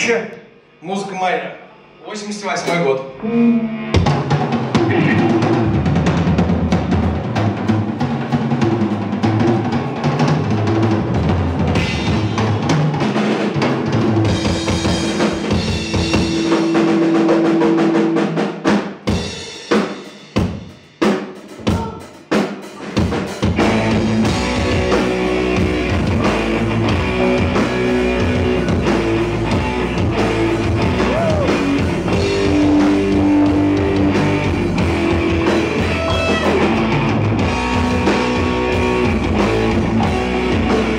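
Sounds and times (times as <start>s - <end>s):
rock band playing loudly: 3.6s - 40.9s.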